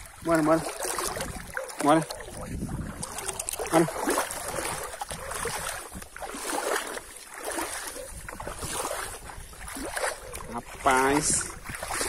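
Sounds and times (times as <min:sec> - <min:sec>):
water sloshing from wading: 0:00.0 - 0:12.0.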